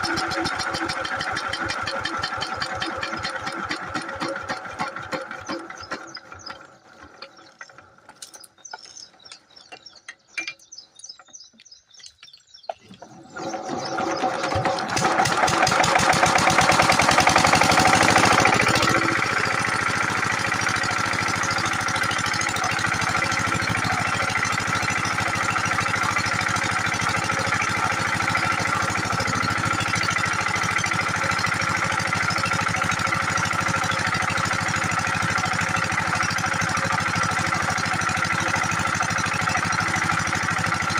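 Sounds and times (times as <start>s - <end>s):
diesel pump engine chugging: 0.0s - 11.4s, 13.0s - 40.9s.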